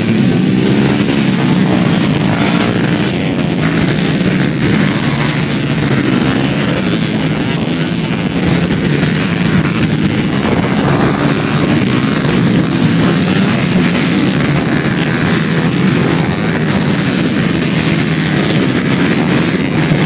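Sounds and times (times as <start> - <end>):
dirt bike engines running: 0.0 - 20.0.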